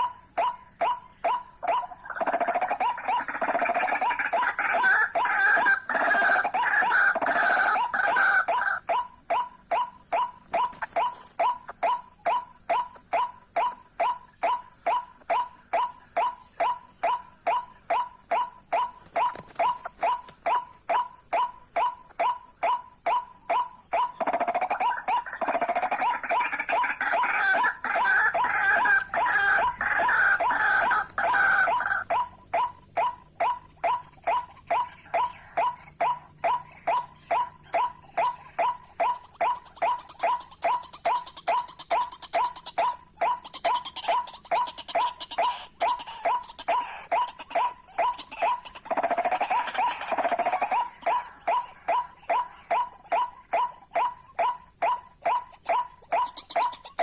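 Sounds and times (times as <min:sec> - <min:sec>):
raucous waterhen calls: 0:00.0 - 0:57.0
waterhen croaking calls: 0:00.0 - 0:57.0.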